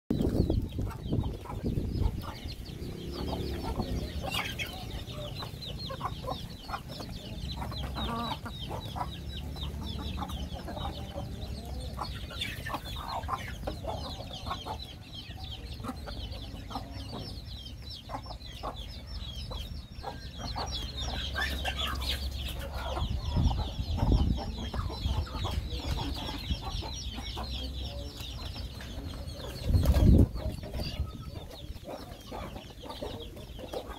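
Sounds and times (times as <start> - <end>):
chicks peeping: 0.1 - 33.9
hens clucking: 0.1 - 33.9.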